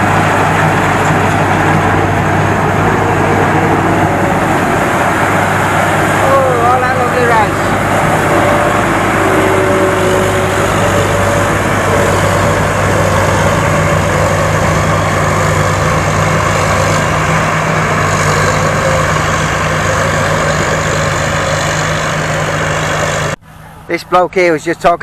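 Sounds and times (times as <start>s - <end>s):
diesel engine humming: 0.0s - 25.0s
machinery noise: 0.0s - 25.0s.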